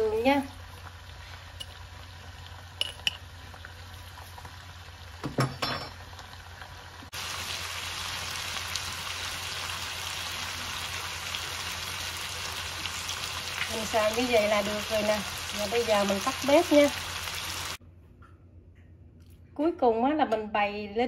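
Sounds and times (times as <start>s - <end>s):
food sizzling in a pan: 0.0s - 17.8s.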